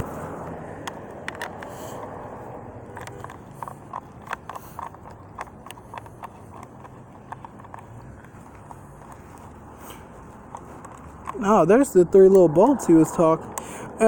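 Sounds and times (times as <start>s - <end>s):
hand tools clicking on metal: 0.0s - 13.7s.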